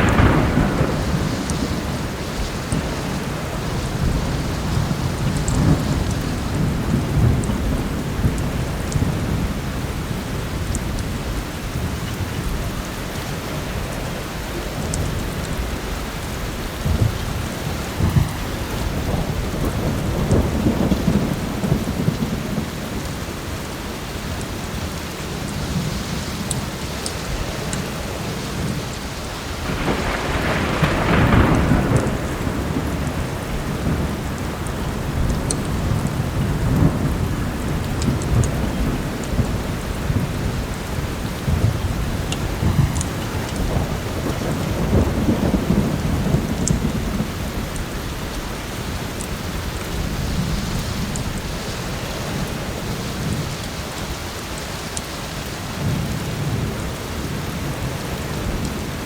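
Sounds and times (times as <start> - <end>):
thunder rumbling: 0.0 - 54.8
heavy rain falling: 0.0 - 59.0.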